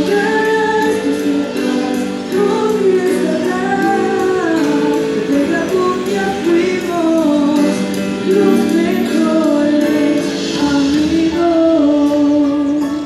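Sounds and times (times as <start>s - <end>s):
boy singing through a microphone: 0.0s - 13.0s.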